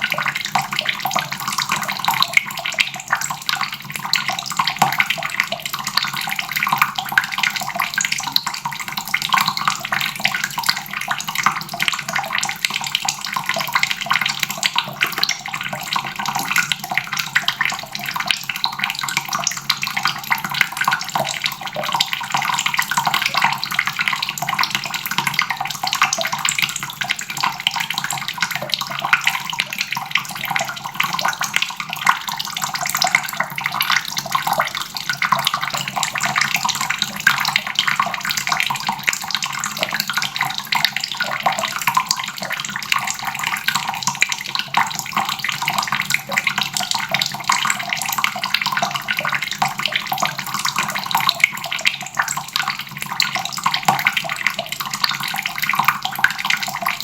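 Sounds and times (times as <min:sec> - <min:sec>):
faucet running into basin: 0:00.0 - 0:57.0.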